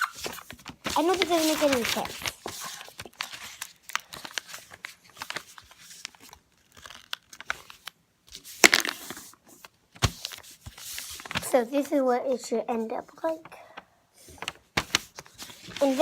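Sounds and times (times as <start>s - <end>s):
paper being folded and creased: 0.0s - 11.8s, 12.8s - 16.0s.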